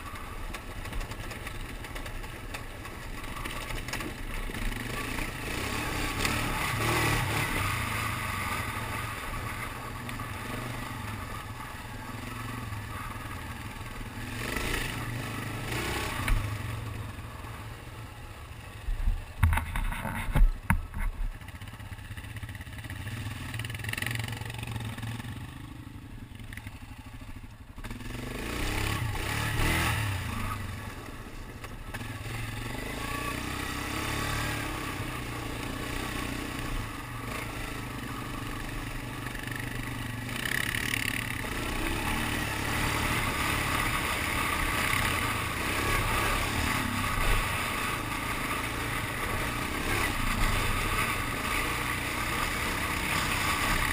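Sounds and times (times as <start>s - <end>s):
quad bike engine running: 0.0s - 53.9s.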